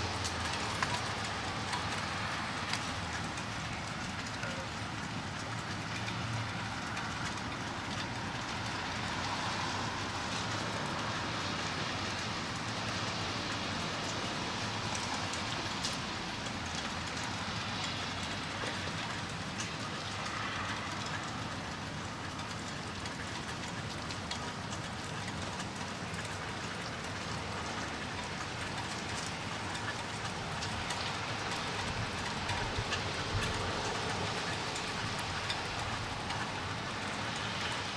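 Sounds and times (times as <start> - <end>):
freezing rain pattering: 0.0 - 37.9.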